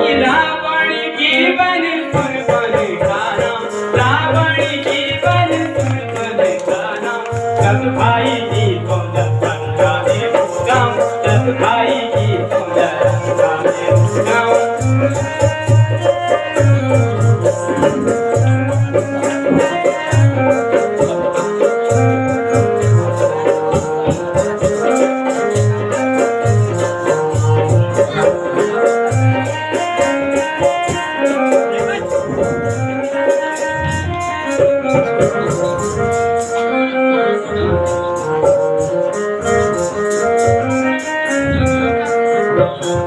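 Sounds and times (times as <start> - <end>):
instrumental music with ticking beat: 0.0 - 43.0.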